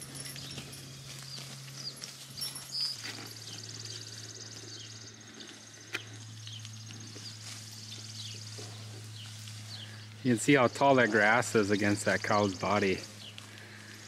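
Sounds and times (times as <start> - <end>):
steady low hum: 0.0 - 14.0
bird chirps: 0.1 - 13.4.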